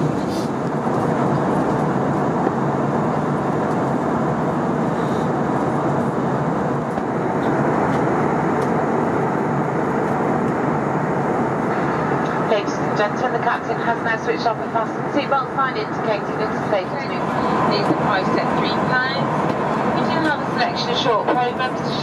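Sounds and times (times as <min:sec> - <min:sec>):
airliner cabin engine rush: 0:00.0 - 0:22.0.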